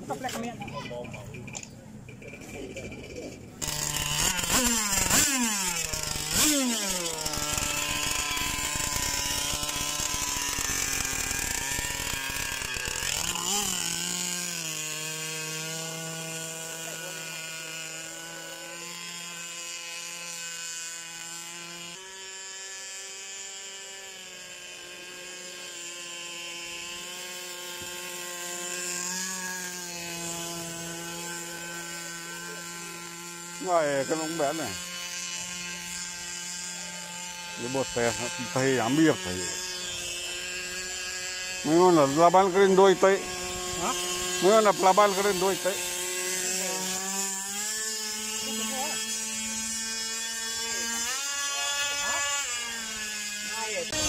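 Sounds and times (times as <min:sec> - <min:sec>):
small petrol engine revving: 0:00.0 - 0:54.0.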